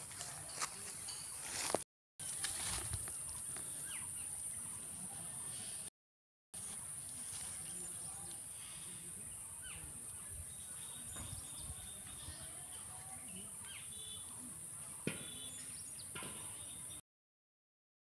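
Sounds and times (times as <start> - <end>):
small birds chirping: 0.8 - 5.8, 6.6 - 17.0.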